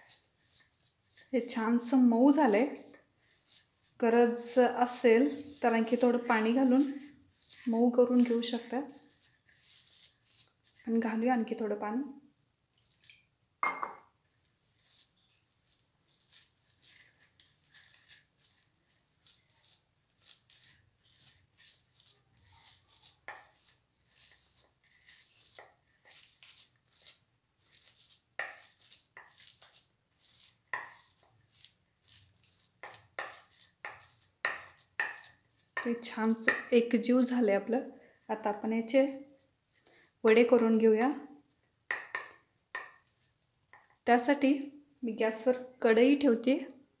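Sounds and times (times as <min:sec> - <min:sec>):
dough squishing and scraping: 0:00.0 - 0:11.7, 0:14.2 - 0:44.2.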